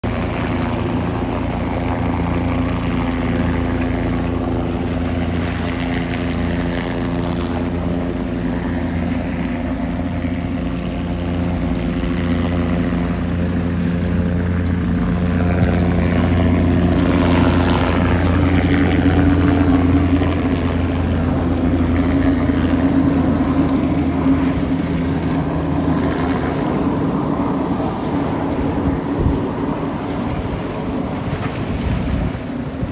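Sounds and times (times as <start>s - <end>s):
helicopter engine and rotor: 0.0s - 31.1s
powerboat engine drone: 0.0s - 32.9s.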